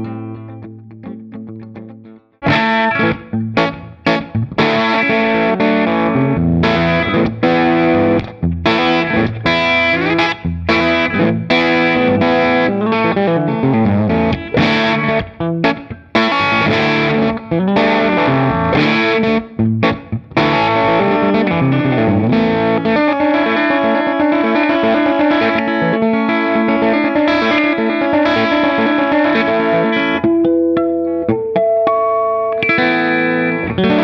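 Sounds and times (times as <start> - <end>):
electric guitar chords: 0.0 - 34.0.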